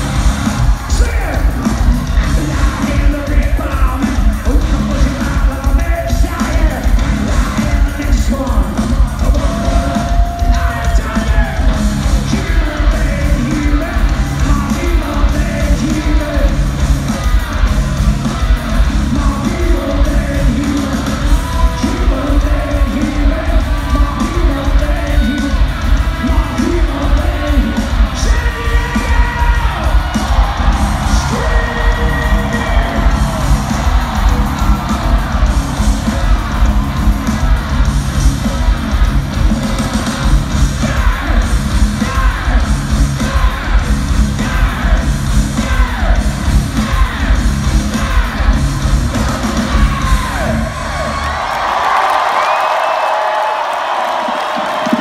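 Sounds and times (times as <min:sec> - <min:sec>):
heavy metal band playing live: 0:00.0 - 0:55.0
yelled vocals: 0:00.0 - 0:55.0.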